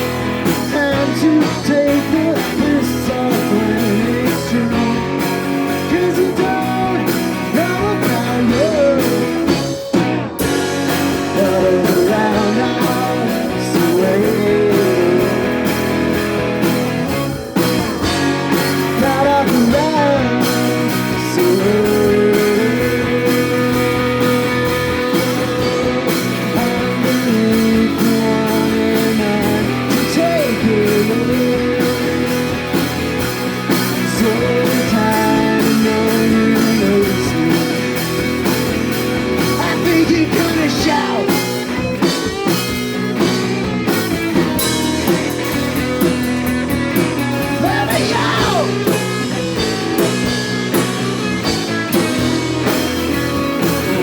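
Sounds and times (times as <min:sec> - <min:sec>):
bass guitar: 0:00.0 - 0:54.0
drum kit beat: 0:00.0 - 0:54.0
electric guitar bending notes: 0:00.0 - 0:54.0.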